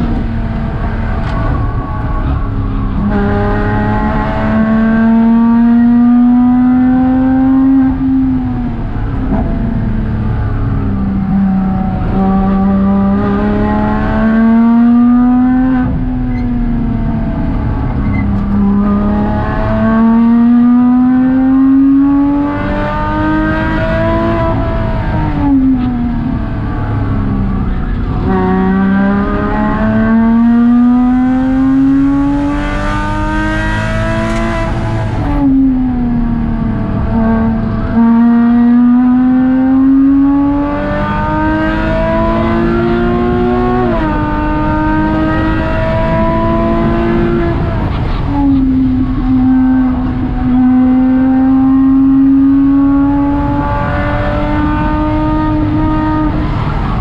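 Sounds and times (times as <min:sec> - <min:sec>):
car engine accelerating: 0:00.0 - 0:57.0
road and tyre noise: 0:00.0 - 0:57.0.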